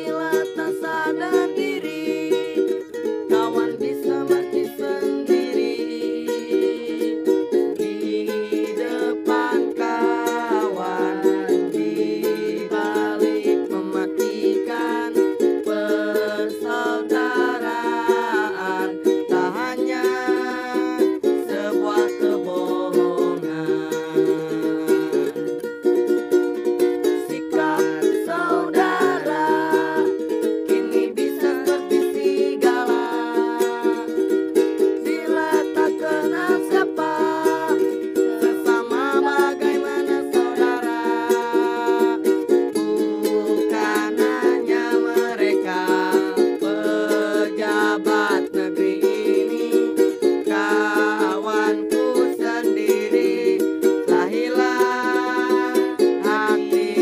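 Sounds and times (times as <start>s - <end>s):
person singing: 0.0s - 57.0s
ukulele strumming: 0.0s - 57.0s.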